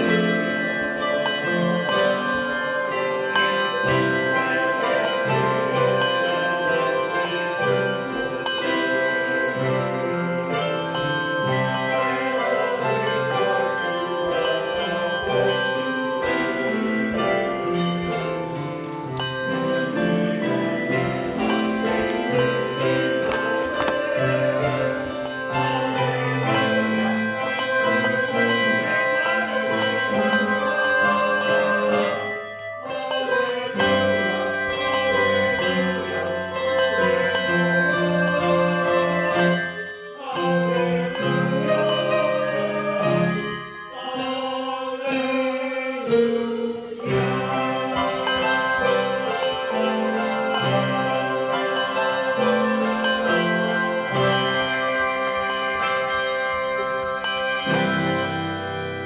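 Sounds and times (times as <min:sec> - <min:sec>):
handbell choir playing: 0:00.0 - 0:59.0.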